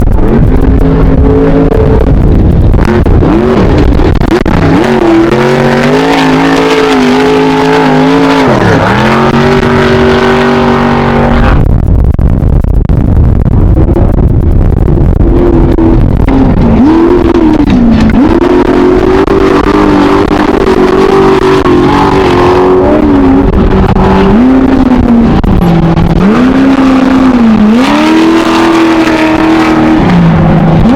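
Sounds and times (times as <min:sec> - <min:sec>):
low rumble: 0:00.0 - 0:30.9
race car engine revving: 0:00.0 - 0:30.9.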